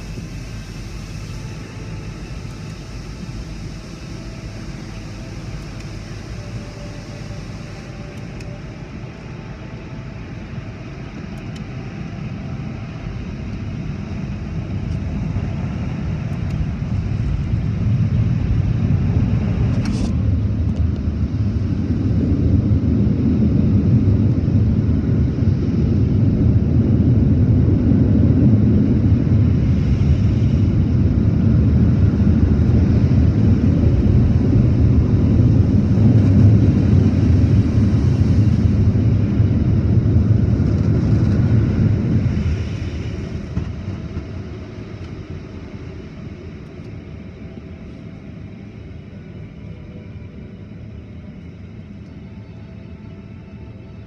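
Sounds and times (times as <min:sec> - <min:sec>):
car wash machinery rumble: 0:00.0 - 0:51.4.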